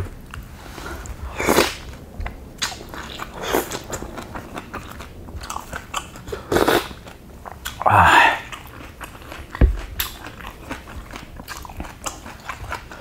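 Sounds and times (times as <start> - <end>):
chewing and wet mouth sounds: 0.0 - 13.0.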